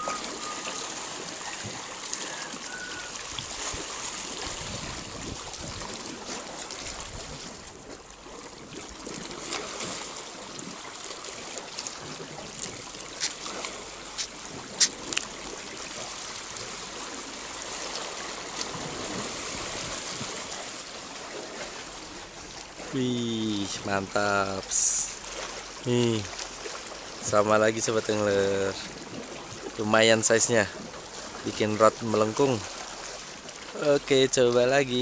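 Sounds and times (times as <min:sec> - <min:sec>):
water lapping among rocks: 0:00.0 - 0:35.0.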